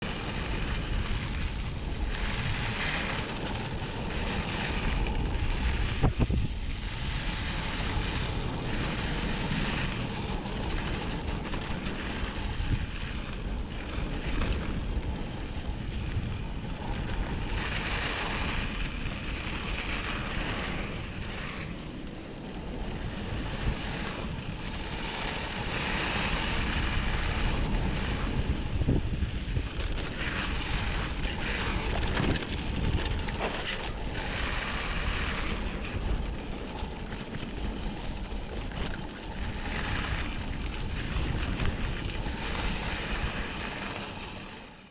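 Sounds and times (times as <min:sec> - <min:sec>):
bike tyres rolling on dirt: 0:00.0 - 0:44.9.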